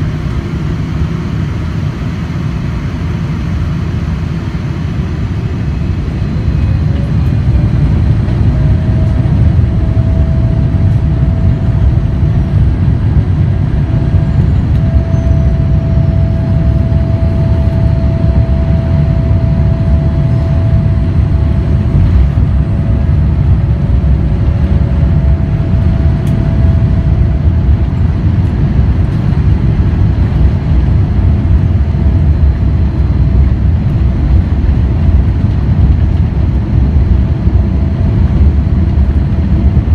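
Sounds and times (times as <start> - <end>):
deep rumble in aircraft cabin: 0.0 - 39.9
jet engines spooling up whine: 0.0 - 39.9.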